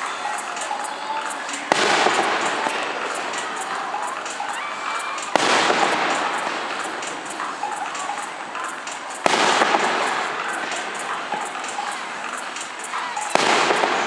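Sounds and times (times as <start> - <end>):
firework shells bursting: 0.0 - 14.0
fireworks crackling: 0.0 - 14.0.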